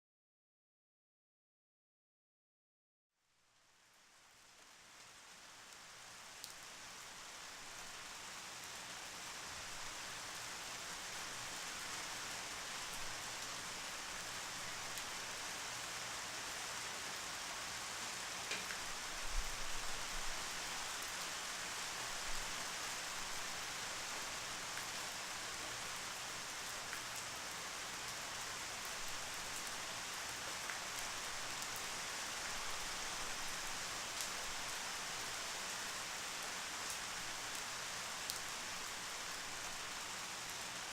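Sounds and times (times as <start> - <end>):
steady rain falling: 3.2 - 40.9.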